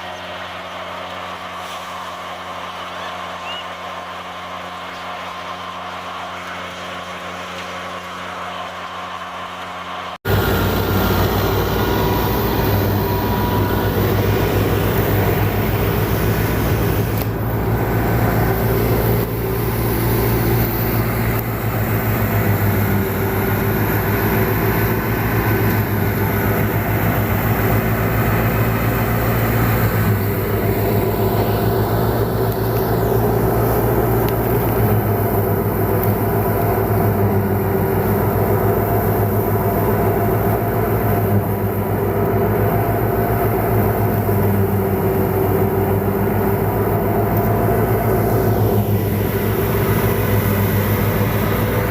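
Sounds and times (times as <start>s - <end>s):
tractor engine hum: 0.0s - 51.9s.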